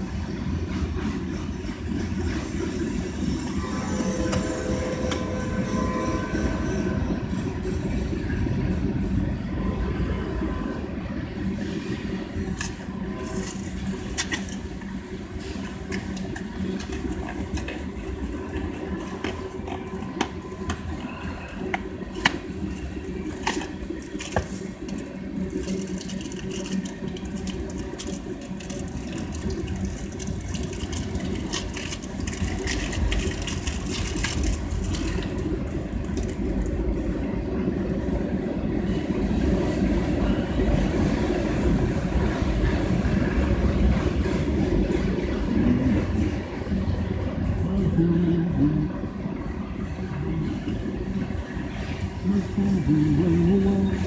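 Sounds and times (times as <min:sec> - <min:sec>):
freight train cars rumbling: 0:00.0 - 0:54.0.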